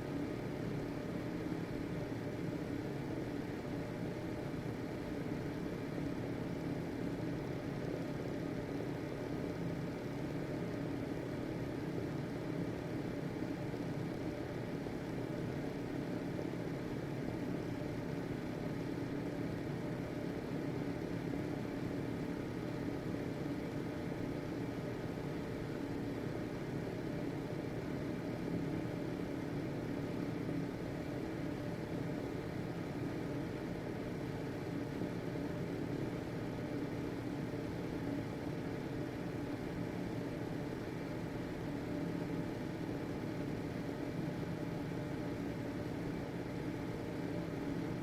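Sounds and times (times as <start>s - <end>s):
ventilation fan humming: 0.0s - 48.0s.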